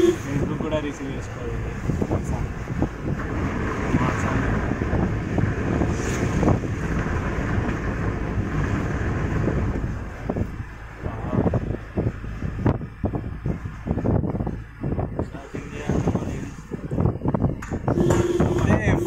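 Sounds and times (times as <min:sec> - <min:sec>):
car engine: 0:00.0 - 0:18.4
road noise: 0:00.0 - 0:19.0.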